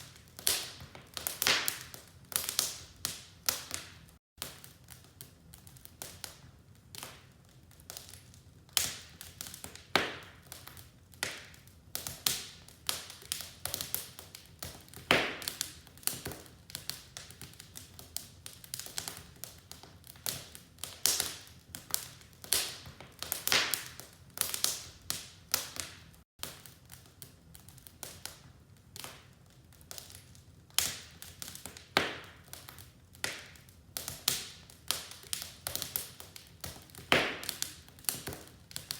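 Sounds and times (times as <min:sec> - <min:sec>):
wood fire popping and snapping: 0:00.0 - 0:38.9.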